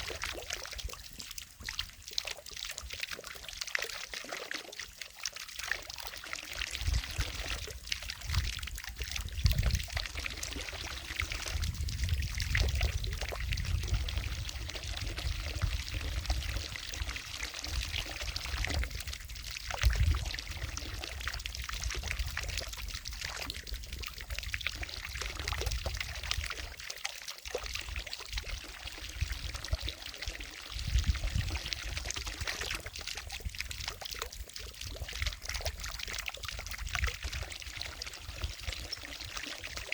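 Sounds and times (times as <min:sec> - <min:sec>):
fountain water splashing into lake: 0:00.0 - 0:39.9.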